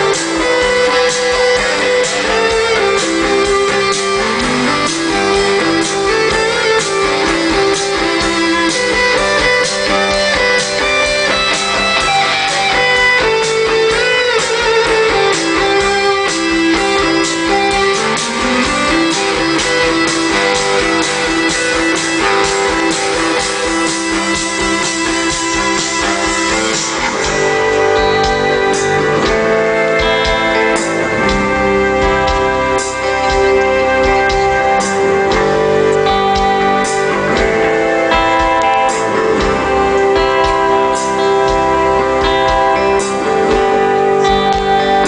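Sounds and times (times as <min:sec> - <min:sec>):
electric guitar lead: 0:00.0 - 0:45.0
live rock band playing: 0:00.0 - 0:45.0.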